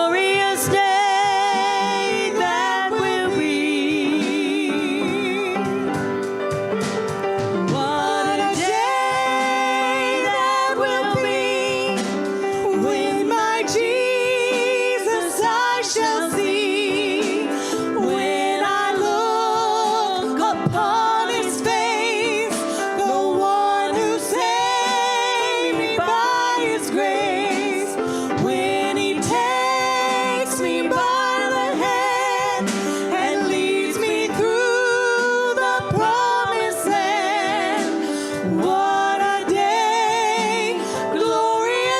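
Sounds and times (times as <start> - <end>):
hymn sung with vibrato: 0.0 - 5.9, 7.7 - 41.9
instrumental accompaniment: 0.0 - 41.9.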